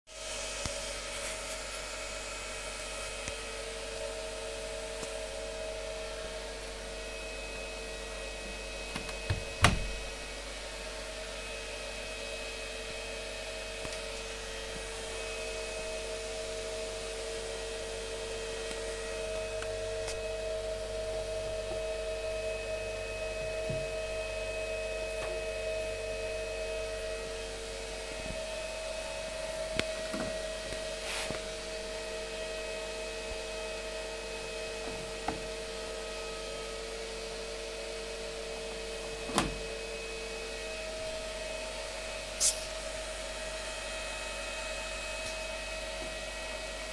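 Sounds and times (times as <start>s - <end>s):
washing machine motor hum: 0.1s - 46.9s.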